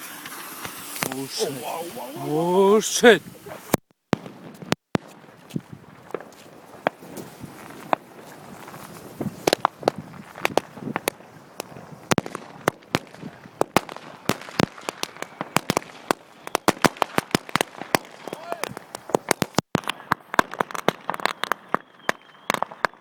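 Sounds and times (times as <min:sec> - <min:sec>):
firecrackers banging: 0:00.0 - 0:23.0.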